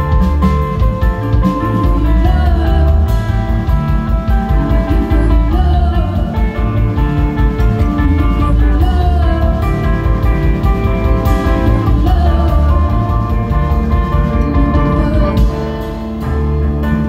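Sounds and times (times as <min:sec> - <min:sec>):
drum kit: 0:00.0 - 0:17.0
electric bass: 0:00.0 - 0:17.0
electric guitars: 0:00.0 - 0:17.0.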